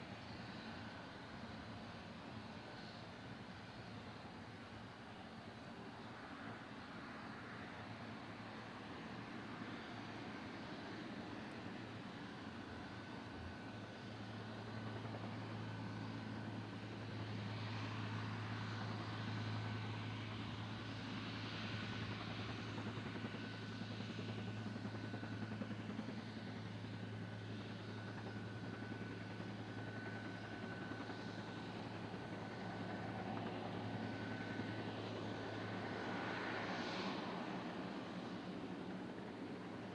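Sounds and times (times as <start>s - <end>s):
high turbine whine: 0.0s - 39.9s
propeller drone: 0.0s - 39.9s.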